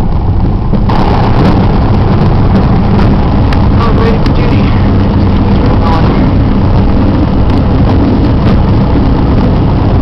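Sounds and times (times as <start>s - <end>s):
airflow noise: 0.0s - 10.0s
airplane engine and propeller droning: 0.0s - 10.0s.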